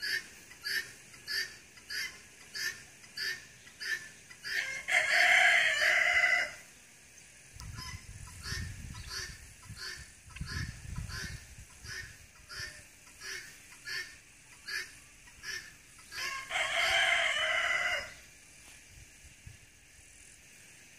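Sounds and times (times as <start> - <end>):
guinea fowl calling: 0.0 - 6.6, 7.6 - 18.2.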